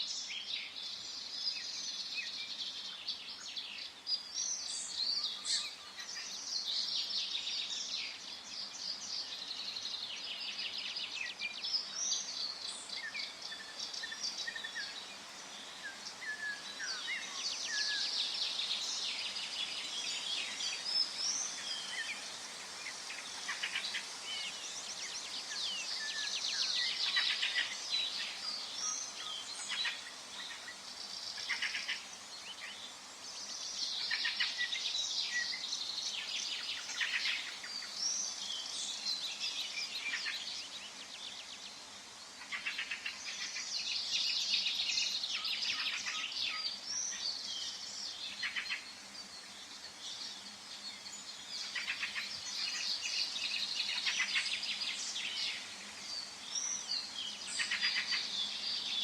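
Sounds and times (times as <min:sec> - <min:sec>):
faint steady hiss: 0:00.0 - 0:59.0
songbirds chirping and trilling: 0:00.0 - 0:59.0.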